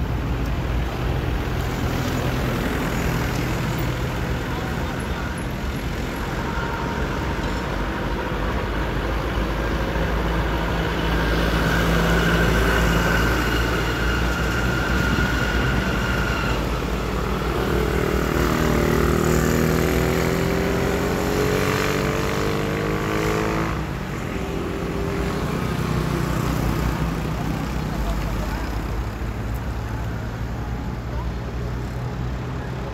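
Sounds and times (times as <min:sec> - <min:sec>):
vehicle engines rumbling: 0:00.0 - 0:32.9
vehicles passing: 0:00.0 - 0:32.9
engine drone gliding in pitch: 0:01.2 - 0:31.4.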